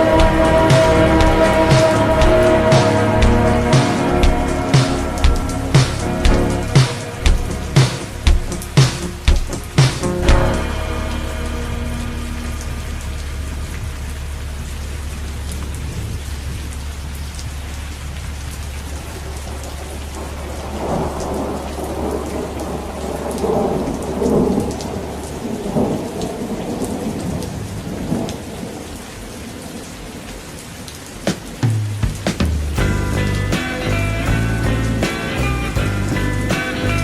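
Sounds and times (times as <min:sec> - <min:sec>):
thunder rolling: 0:00.0 - 0:29.0, 0:31.3 - 0:37.0
steady rain falling: 0:00.0 - 0:37.0.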